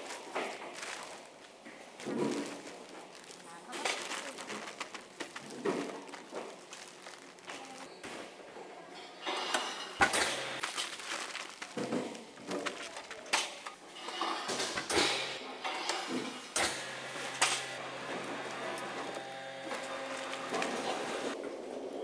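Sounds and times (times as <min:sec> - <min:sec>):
knocks and clanks of handling: 0:00.0 - 0:08.4, 0:09.0 - 0:21.3.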